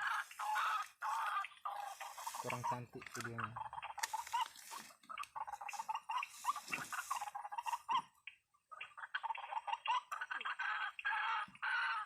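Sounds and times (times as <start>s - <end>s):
waterhen calling: 0.0s - 12.0s.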